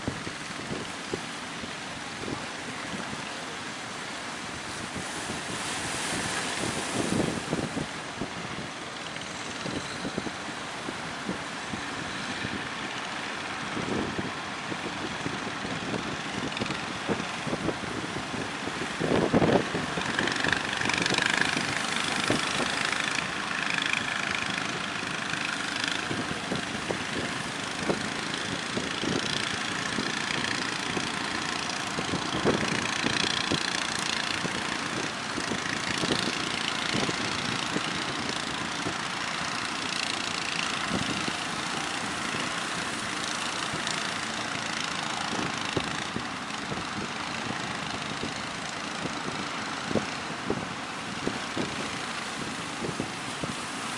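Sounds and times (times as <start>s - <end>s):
boat engines running: 0.0s - 53.9s
surf: 0.0s - 53.9s
wind: 0.0s - 53.9s.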